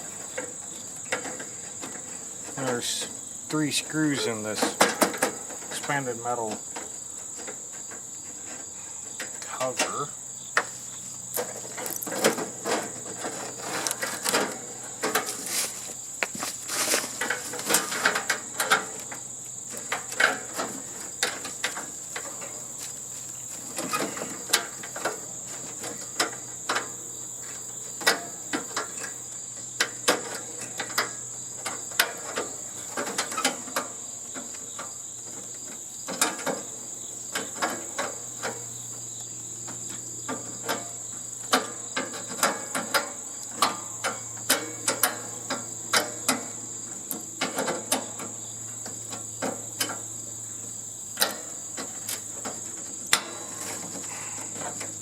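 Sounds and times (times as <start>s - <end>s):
hand tools clicking and knocking metal: 0.0s - 8.6s, 9.2s - 27.0s, 27.9s - 36.7s, 39.7s - 55.0s.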